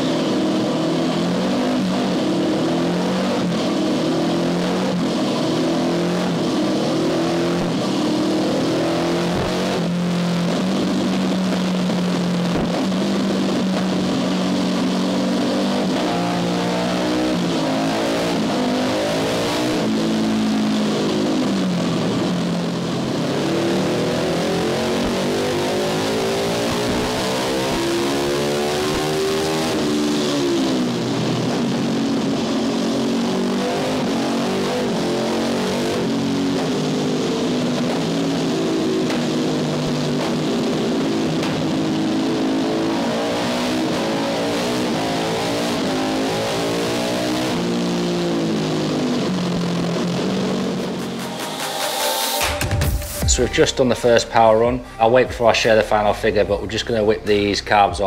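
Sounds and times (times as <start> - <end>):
motorcycle engine revving: 0.0 - 55.4.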